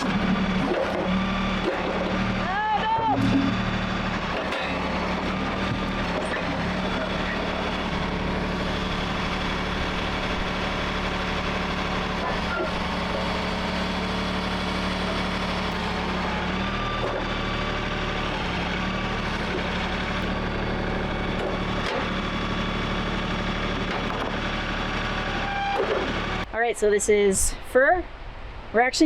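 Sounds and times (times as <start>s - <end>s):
sawmill engine running: 0.0s - 27.3s.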